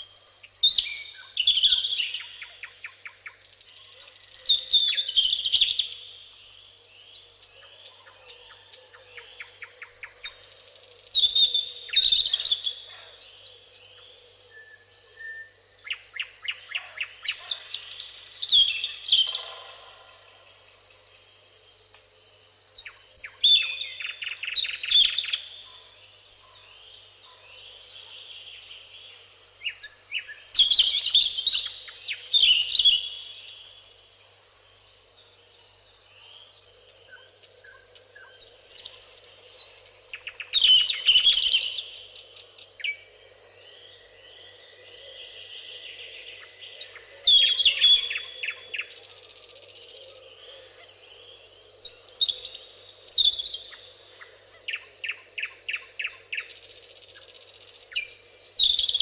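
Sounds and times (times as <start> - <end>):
songbirds singing with trills: 0.0 - 59.0.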